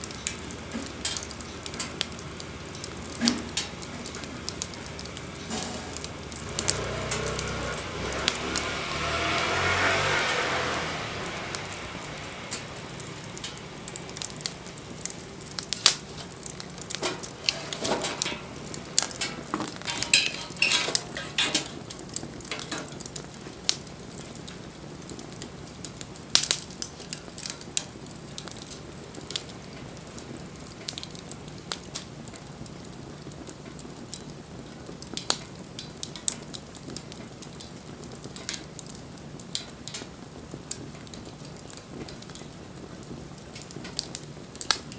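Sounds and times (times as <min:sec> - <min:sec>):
fire pops and snaps: 0:00.0 - 0:44.9
soft fire hiss: 0:00.0 - 0:44.9
wood fire crackling: 0:00.0 - 0:44.9.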